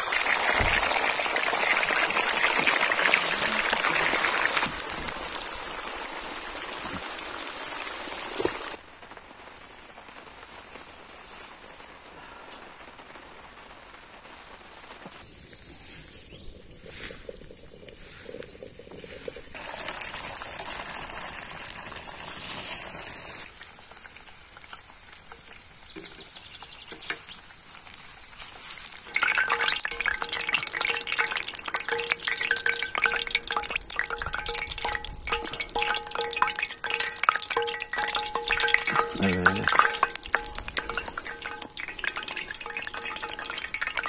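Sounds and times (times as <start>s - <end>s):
food sizzling in hot oil: 0.0s - 8.8s, 15.8s - 44.0s.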